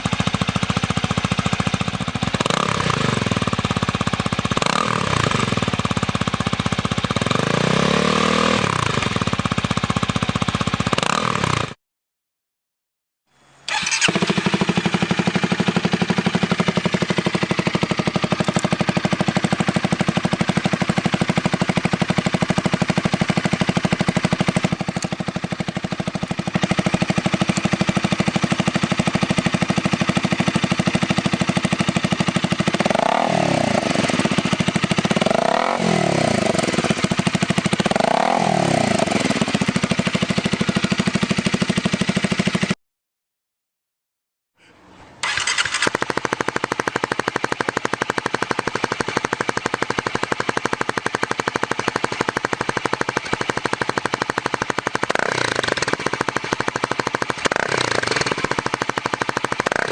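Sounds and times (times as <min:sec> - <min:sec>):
motorcycle engine idling: 0:00.0 - 0:11.0, 0:13.7 - 0:42.8, 0:45.2 - 0:59.9.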